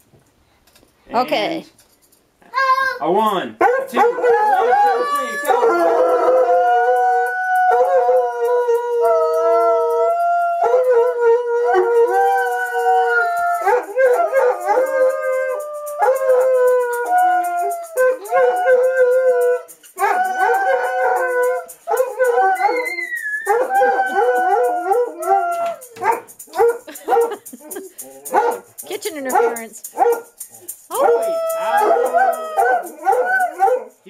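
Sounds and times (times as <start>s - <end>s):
dogs howling: 3.6s - 28.7s, 30.9s - 34.0s.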